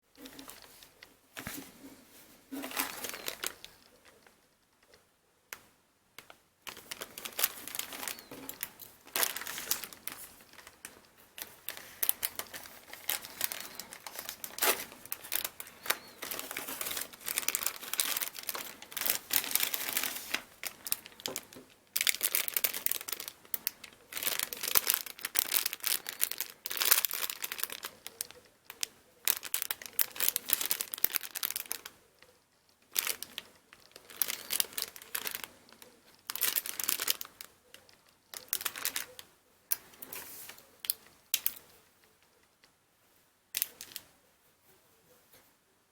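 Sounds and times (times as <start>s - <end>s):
packaging crinkling and rustling: 0.2s - 4.9s, 6.6s - 32.3s, 32.9s - 41.6s.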